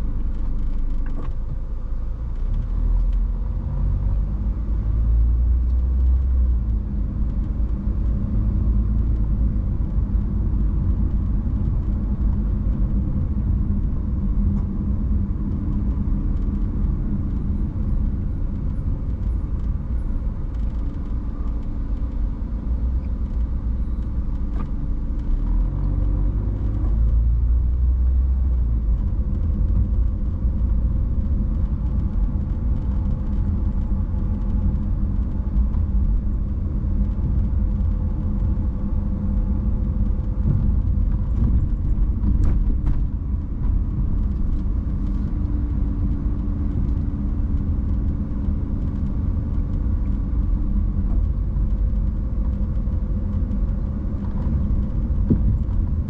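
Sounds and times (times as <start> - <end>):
car engine driving slowly: 0.0 - 56.0
road rumble: 0.0 - 56.0.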